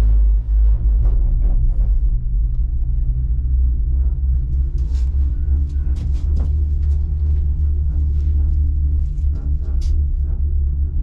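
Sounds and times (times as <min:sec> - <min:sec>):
faint hum: 0:00.0 - 0:11.0
gondola cabin rumble: 0:00.0 - 0:11.0.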